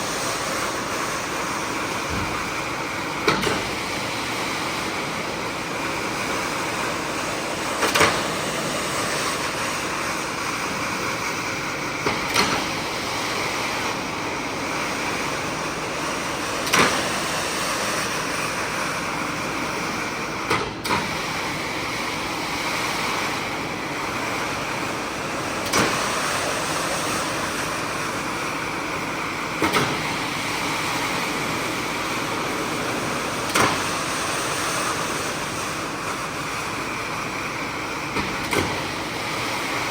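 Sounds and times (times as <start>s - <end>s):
carpet cleaning machine rushing: 0.0s - 39.9s.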